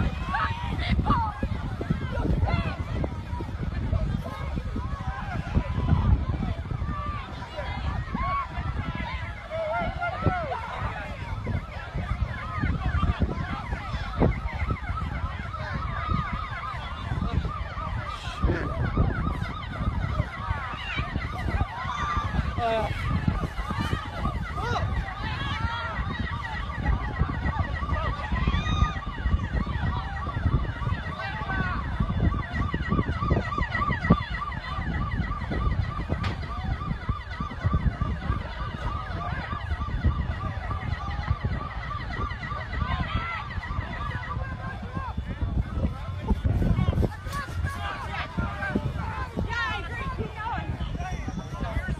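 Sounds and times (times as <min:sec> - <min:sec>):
emergency sirens wailing: 0:00.0 - 0:51.9.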